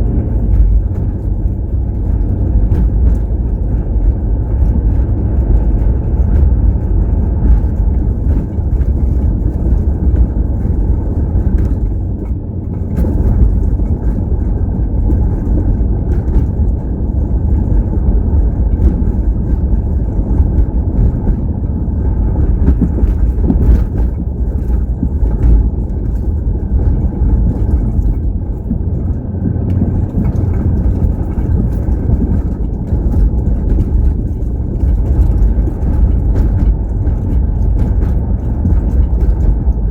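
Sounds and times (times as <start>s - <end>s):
vehicle low rumble: 0.0s - 39.9s.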